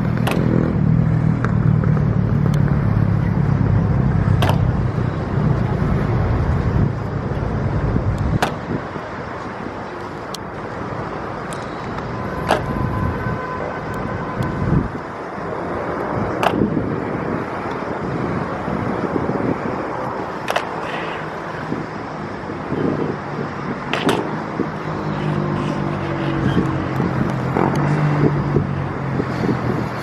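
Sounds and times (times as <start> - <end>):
city traffic noise: 0.0 - 30.0.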